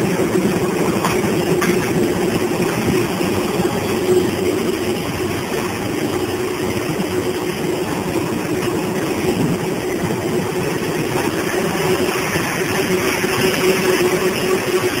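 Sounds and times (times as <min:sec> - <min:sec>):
machinery rattle: 0:00.0 - 0:15.0.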